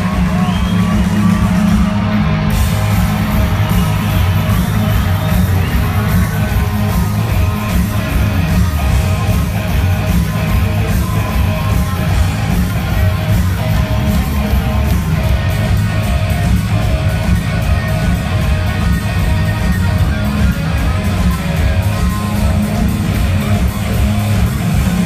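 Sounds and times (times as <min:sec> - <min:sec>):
rock band playing loud: 0:00.0 - 0:25.0.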